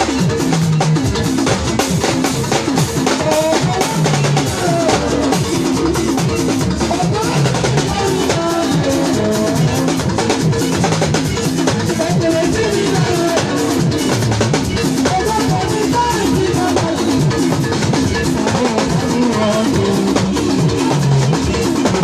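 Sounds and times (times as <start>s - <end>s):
drum kit beat: 0.0s - 22.0s
gospel band music: 0.0s - 22.0s.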